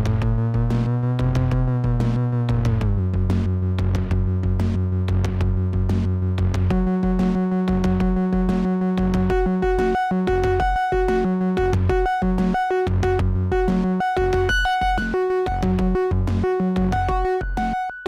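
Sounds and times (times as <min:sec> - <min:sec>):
synthesizer bass line: 0:00.0 - 0:18.0.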